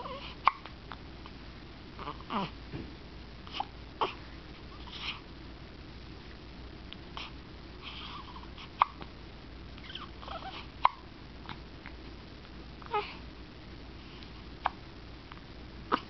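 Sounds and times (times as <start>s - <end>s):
soft breathy sounds: 0.0s - 2.6s, 3.3s - 5.4s, 6.1s - 16.0s.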